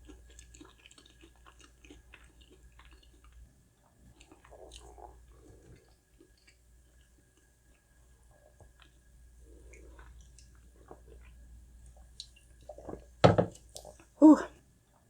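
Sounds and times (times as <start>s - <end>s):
person chewing with wet smacks: 0.0s - 14.2s.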